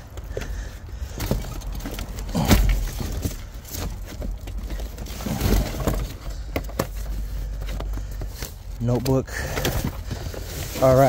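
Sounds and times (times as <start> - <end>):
heavy bumps: 0.0 - 11.0
cardboard and notebooks shuffling: 1.1 - 11.0.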